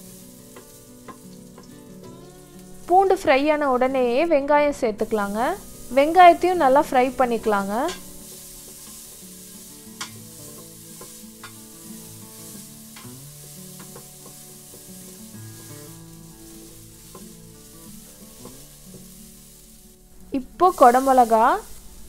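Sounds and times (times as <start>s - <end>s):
onion sizzling in butter: 0.0s - 22.0s.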